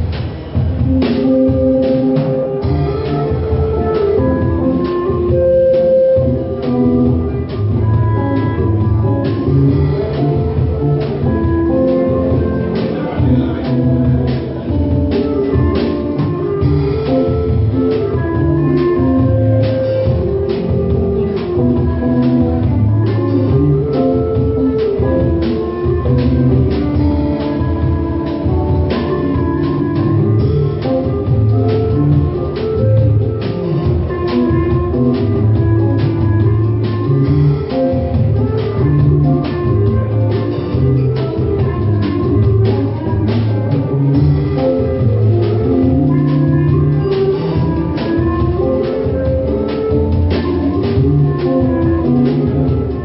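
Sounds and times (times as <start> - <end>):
instrumental folk music: 0.0 - 53.0.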